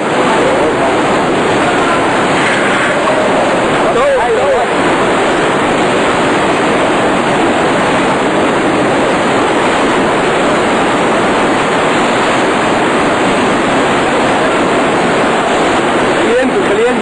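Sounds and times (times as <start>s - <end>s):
churning white water rushing: 0.0s - 17.0s.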